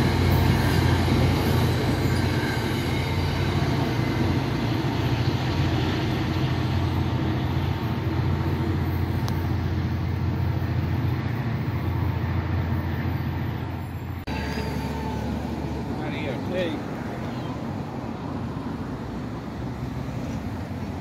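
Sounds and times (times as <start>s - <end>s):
train rumbling away: 0.0s - 21.0s.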